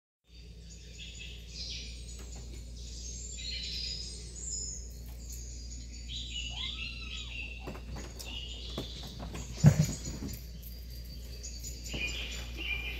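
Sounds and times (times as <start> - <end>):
birds chirping: 0.2 - 12.9
steady low hum: 0.3 - 12.9.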